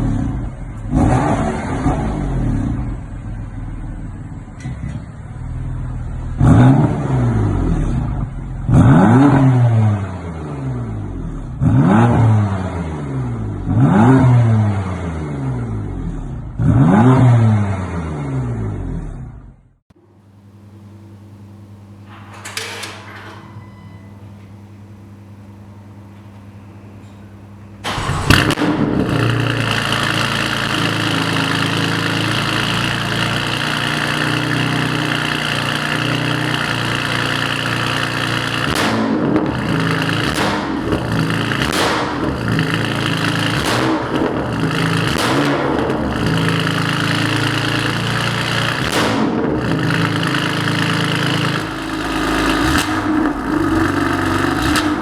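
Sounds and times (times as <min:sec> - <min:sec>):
car engine revving: 0:00.0 - 0:04.4, 0:05.3 - 0:19.4, 0:27.5 - 0:55.0.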